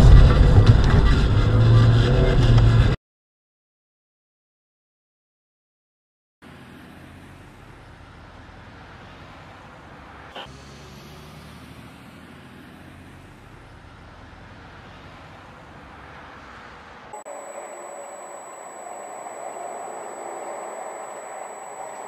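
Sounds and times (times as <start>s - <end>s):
car engine and road noise: 0.0s - 3.0s, 6.4s - 22.0s.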